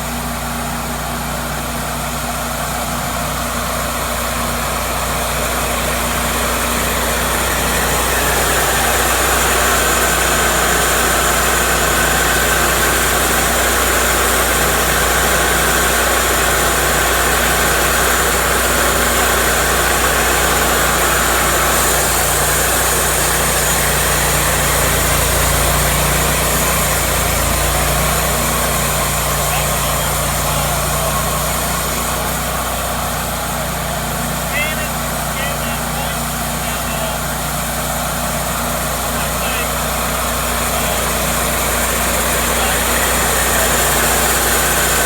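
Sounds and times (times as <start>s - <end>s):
band sawmill running: 0.0s - 45.0s.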